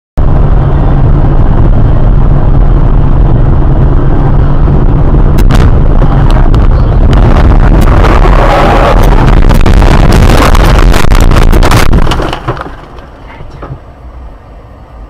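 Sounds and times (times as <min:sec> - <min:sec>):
car engine rumble: 0:00.2 - 0:15.0
road noise: 0:00.2 - 0:15.0.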